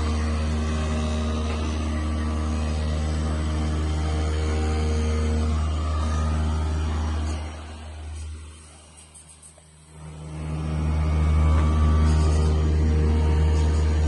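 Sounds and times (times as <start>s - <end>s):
electric motors humming: 0.0s - 14.0s.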